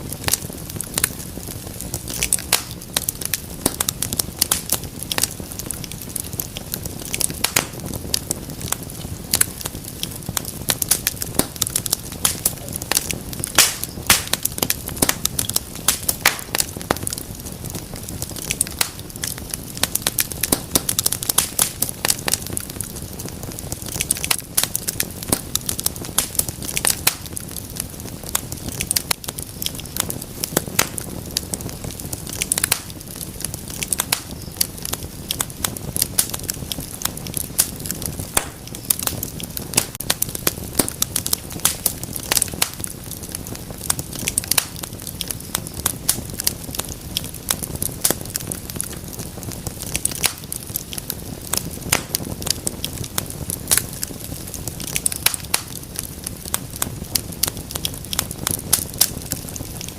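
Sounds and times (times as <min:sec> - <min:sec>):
low rumble of burning logs: 0:00.0 - 0:59.9
wood fire crackling: 0:00.0 - 0:59.9.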